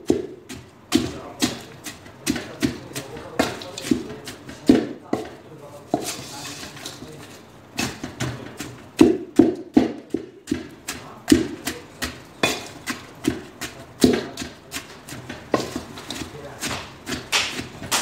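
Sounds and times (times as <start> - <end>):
spatula pounding in metal bowl: 0.0 - 6.7, 7.7 - 18.0.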